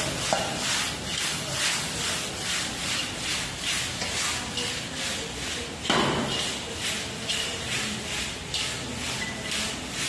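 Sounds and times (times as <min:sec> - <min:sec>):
wok clatter: 0:00.0 - 0:10.0
wok scraping and swishing: 0:00.0 - 0:10.0.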